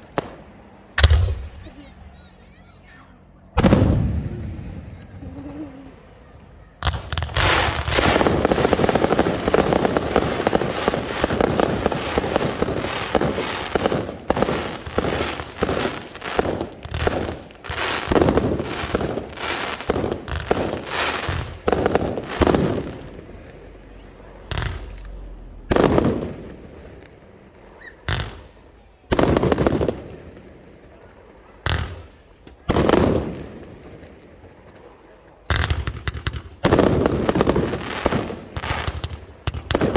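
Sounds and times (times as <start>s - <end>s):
loud firework bursts: 0.0s - 2.4s, 3.2s - 39.9s
fireworks banging and crackling: 0.0s - 39.9s.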